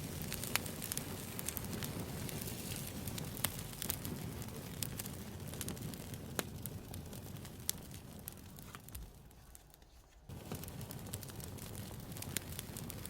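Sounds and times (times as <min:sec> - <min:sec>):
campfire crackling and popping: 0:00.0 - 0:09.4, 0:10.3 - 0:13.0.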